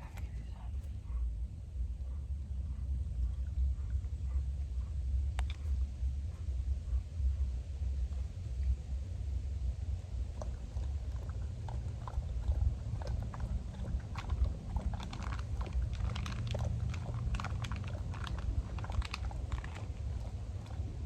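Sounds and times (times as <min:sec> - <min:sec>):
dog chewing and licking: 0:00.0 - 0:21.0
steady low rumble: 0:00.0 - 0:21.0.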